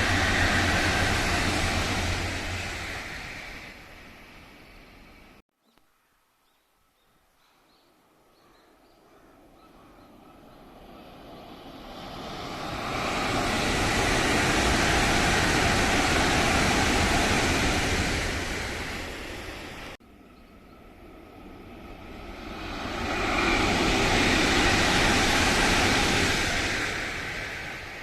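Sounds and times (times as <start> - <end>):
high-speed trains passing: 0.0 - 5.4, 9.4 - 28.0.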